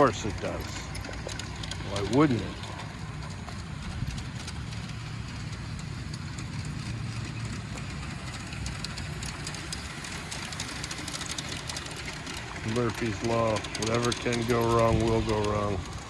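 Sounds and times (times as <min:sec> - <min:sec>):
model train motor hum: 0:00.0 - 0:16.0
wheels clicking on rails: 0:00.0 - 0:16.0.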